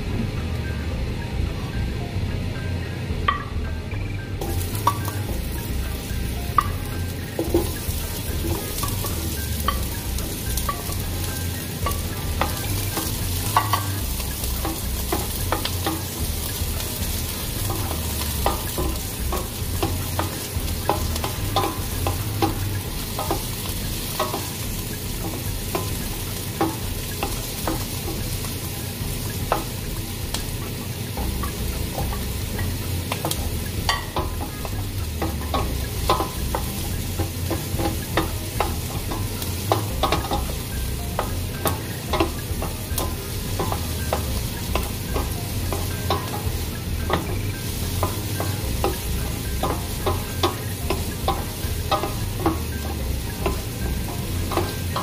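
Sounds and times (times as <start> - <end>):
noodles sizzling in pan: 0.0 - 55.0
wooden spoon tapping and scraping pan: 4.4 - 55.0.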